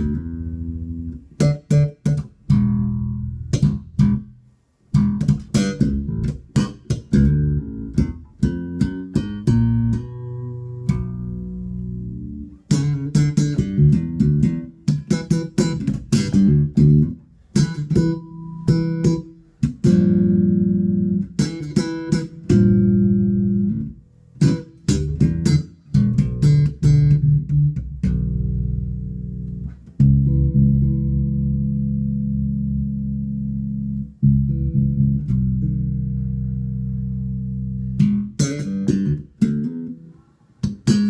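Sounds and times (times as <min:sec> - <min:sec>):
electric bass line: 0:00.0 - 0:41.0.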